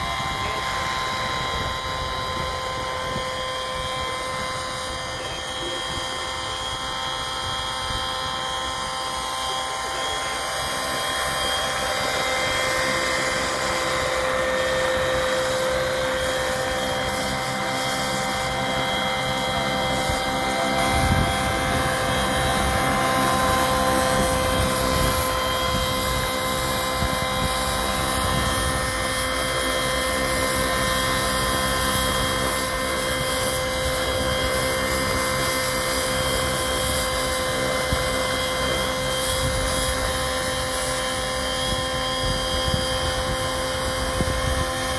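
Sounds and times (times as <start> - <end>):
model helicopter high-pitched whine: 0.0 - 44.9
rotor blades rushing: 0.0 - 44.9.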